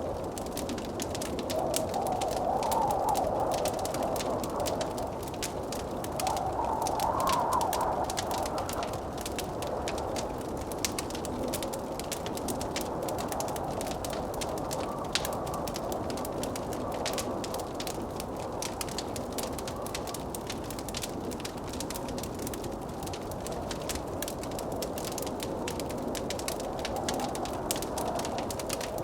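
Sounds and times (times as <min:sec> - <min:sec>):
blizzard wind rushing: 0:00.0 - 0:29.0
wood fire crackling: 0:00.0 - 0:29.0.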